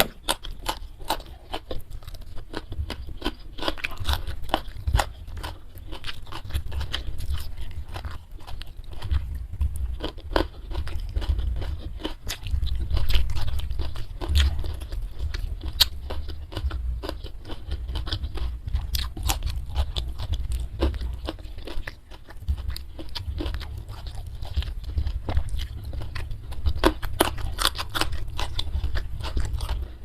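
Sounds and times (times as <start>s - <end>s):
low rumble: 0.0s - 30.0s
person chewing and crunching food: 0.0s - 30.0s.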